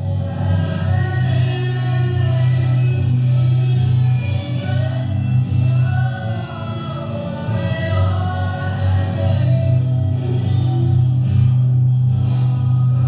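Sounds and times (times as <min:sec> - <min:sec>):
person singing: 0:00.0 - 0:11.5.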